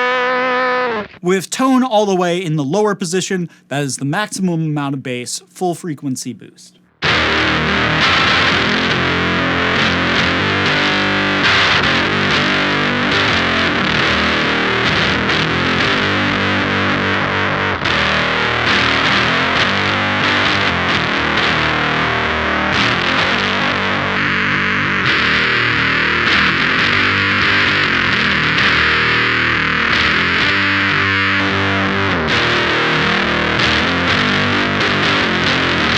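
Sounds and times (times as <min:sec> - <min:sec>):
heavily distorted electric guitar: 0:00.0 - 0:01.4, 0:06.8 - 0:35.9.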